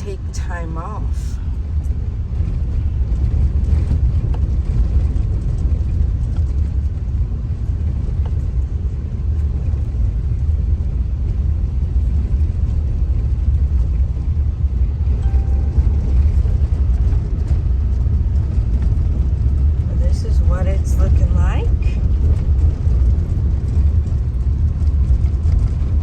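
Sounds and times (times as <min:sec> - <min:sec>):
moving car rumble: 0:00.0 - 0:26.0.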